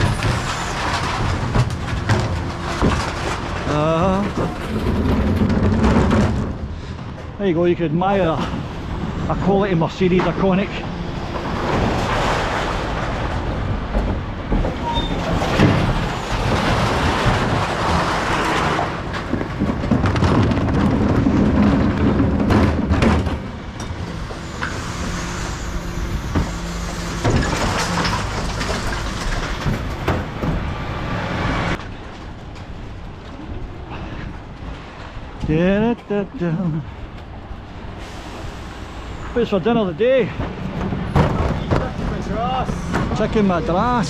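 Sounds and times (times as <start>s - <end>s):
rattles and sharp clanks: 0.0s - 35.6s, 39.1s - 44.0s.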